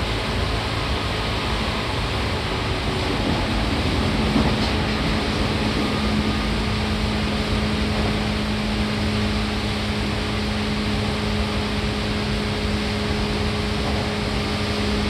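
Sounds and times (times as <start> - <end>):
train wheel and rail rumble: 0.0 - 15.0.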